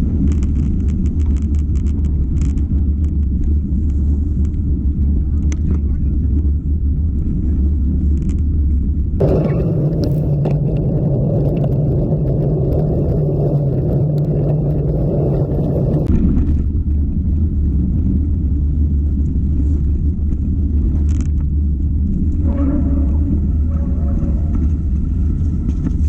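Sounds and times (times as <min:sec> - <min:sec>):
bike tyres rumbling on trail: 0:00.0 - 0:26.0
wind buffeting microphone: 0:00.0 - 0:26.0.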